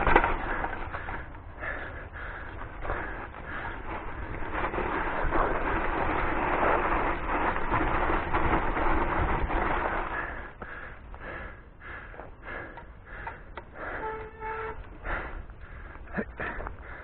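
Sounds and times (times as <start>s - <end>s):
bike tyres rolling on gravel: 0.0s - 17.0s.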